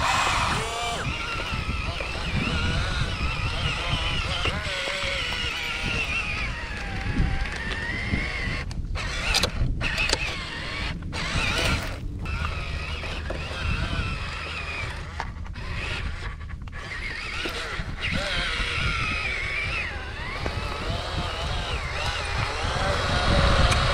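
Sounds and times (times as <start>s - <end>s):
small electric motors whining: 0.0s - 23.9s.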